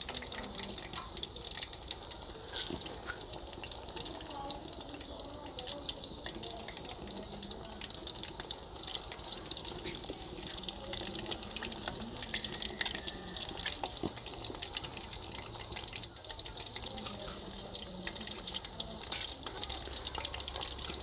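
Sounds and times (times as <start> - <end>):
fish deep-frying in oil: 0.0 - 21.0
oil popping and crackling: 0.0 - 21.0.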